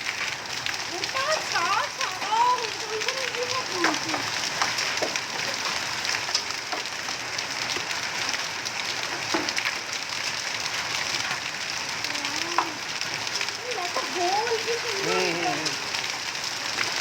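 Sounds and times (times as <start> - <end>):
hailstones clicking: 0.0 - 17.0
rain hissing: 0.0 - 17.0.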